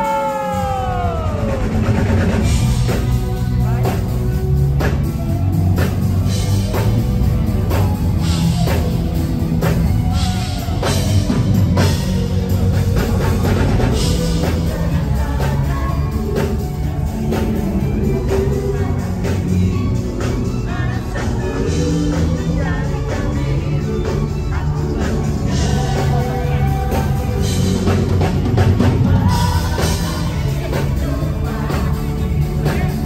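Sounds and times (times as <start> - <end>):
person singing: 0.0 - 5.0, 7.7 - 33.0
pop-rock band playing: 0.0 - 33.0.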